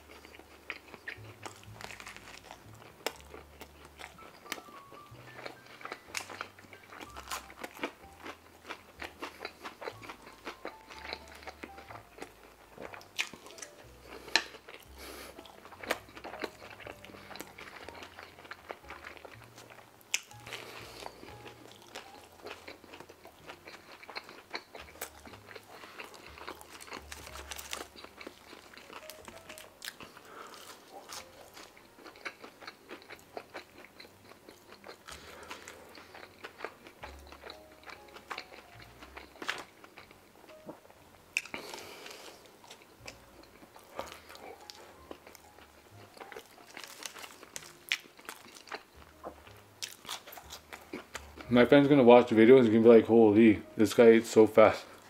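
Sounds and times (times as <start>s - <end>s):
person chewing food: 0.0s - 52.0s
mouth clicks and crunches: 0.1s - 40.8s, 41.4s - 52.0s.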